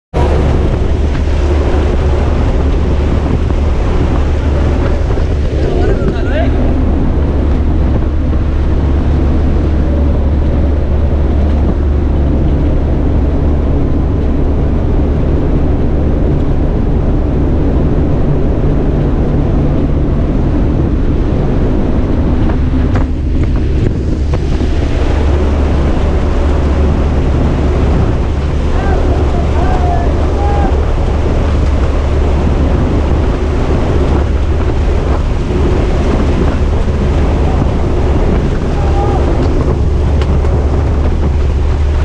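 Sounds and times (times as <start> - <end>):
rushing air: 0.1 - 42.0
aircraft engines droning: 0.2 - 42.0.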